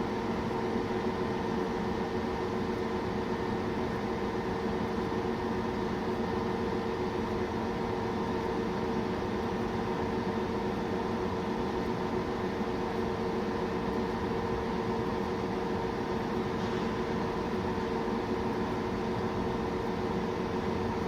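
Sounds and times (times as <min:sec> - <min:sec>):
machine hum with fan: 0:00.0 - 0:21.0.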